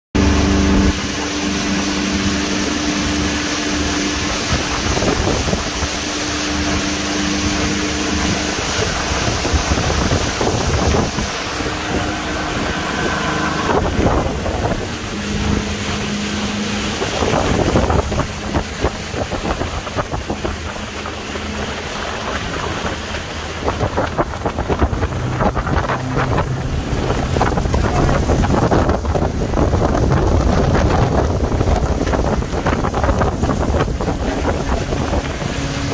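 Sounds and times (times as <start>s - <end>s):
outboard motor running at speed: 0.2s - 35.9s
water rushing past hull: 0.2s - 35.9s
wind buffeting microphone: 0.2s - 35.9s.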